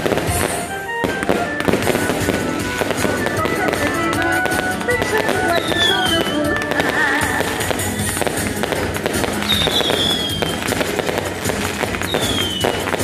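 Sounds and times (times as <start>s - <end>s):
fireworks crackling and popping: 0.0s - 13.0s.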